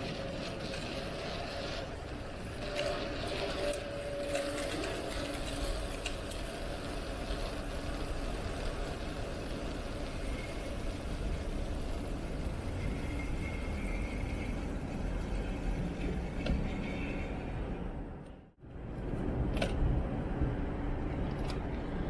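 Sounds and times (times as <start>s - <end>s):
bicycle tyres rolling: 0.0s - 19.3s.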